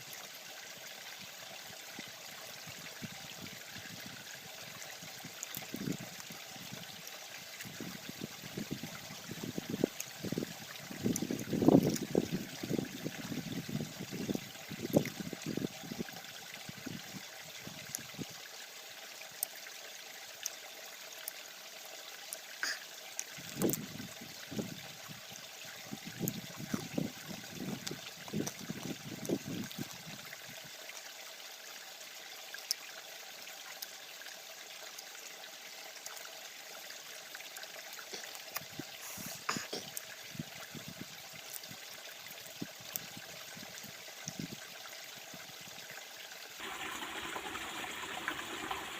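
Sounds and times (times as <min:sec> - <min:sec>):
small stream babbling: 0:00.0 - 0:48.9.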